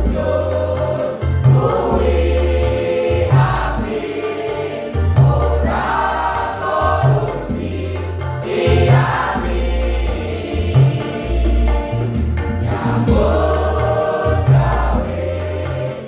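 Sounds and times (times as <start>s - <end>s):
choir singing in harmony: 0.0s - 16.0s
stepping bass line: 0.0s - 16.0s.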